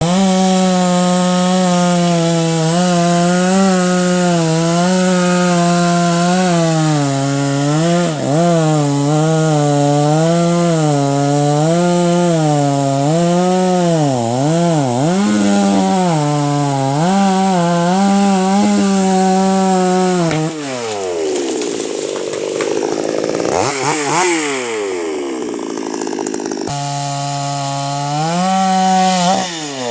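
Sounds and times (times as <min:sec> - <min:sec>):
chainsaw cutting wood: 0:00.0 - 0:29.9.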